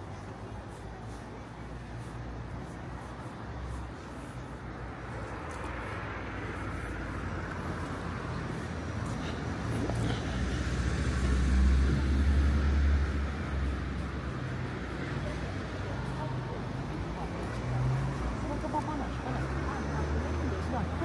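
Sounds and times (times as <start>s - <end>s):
street ambience: 0.0s - 21.0s
vehicle passing: 0.0s - 21.0s.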